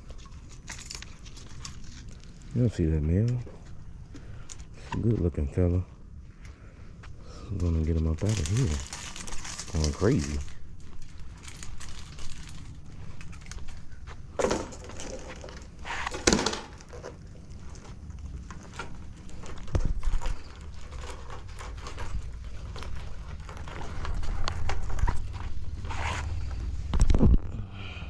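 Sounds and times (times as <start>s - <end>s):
steady low rumble: 0.0s - 15.8s, 17.0s - 28.0s.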